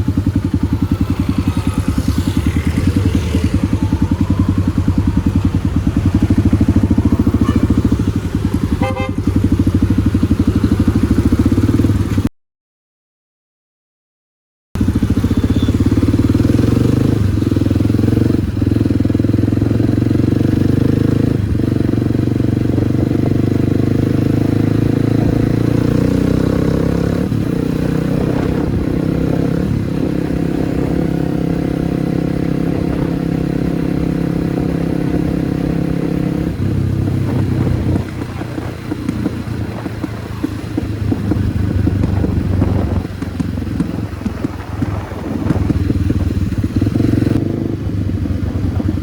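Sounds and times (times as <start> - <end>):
motorcycle engine running: 0.0 - 12.3, 14.8 - 49.0.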